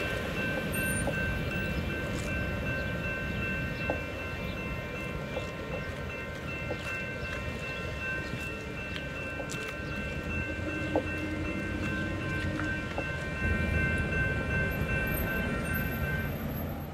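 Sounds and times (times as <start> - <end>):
railroad crossing warning bell: 0.0 - 16.9.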